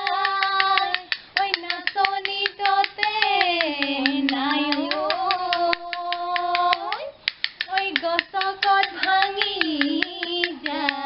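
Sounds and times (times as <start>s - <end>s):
bamboo clapper claps: 0.0s - 11.0s
women singing folk song: 0.0s - 11.0s.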